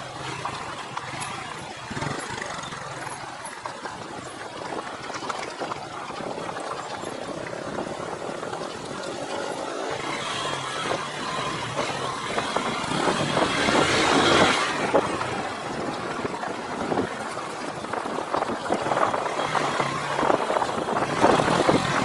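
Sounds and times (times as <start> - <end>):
motorcycle engine running: 0.0 - 22.0
road noise: 0.0 - 22.0
wind noise: 0.0 - 22.0.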